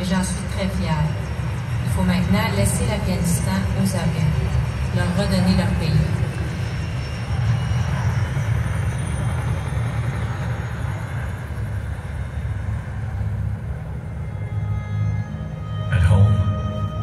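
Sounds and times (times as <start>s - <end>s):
deep rumbling drone over loudspeakers: 0.0s - 17.0s.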